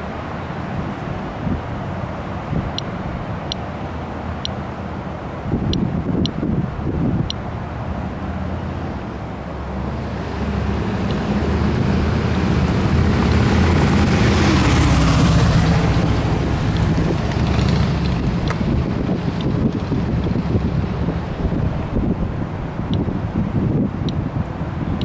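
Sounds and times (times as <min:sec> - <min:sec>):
car passing: 0:00.0 - 0:25.0
wind rumble on microphone: 0:00.0 - 0:25.0.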